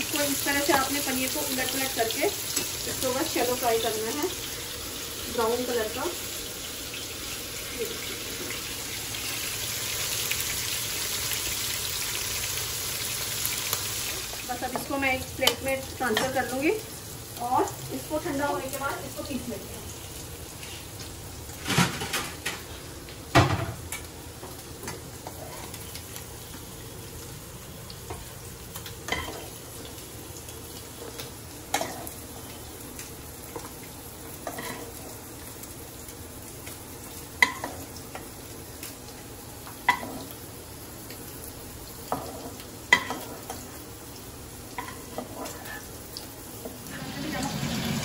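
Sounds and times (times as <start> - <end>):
paneer sizzling in oil: 0.0 - 48.0.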